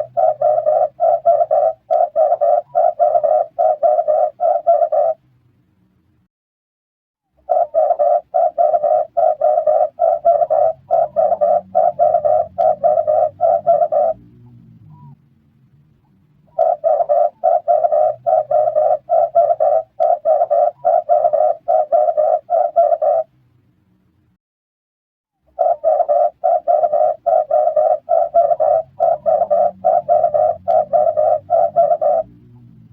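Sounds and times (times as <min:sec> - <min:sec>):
dove cooing: 0:00.0 - 0:05.2, 0:07.4 - 0:15.2, 0:16.5 - 0:23.3, 0:25.5 - 0:32.9.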